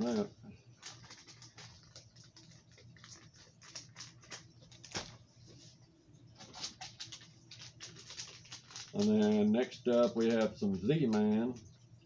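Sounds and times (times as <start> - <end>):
plastic packaging rustling: 0.0 - 5.5, 6.4 - 11.6.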